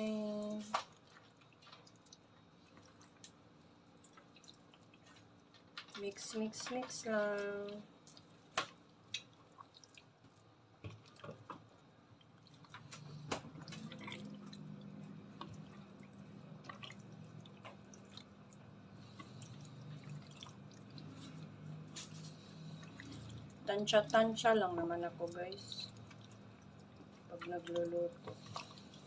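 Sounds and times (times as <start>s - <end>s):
low steady hum: 0.0s - 29.0s
wet squelching of stirred food: 0.7s - 29.0s.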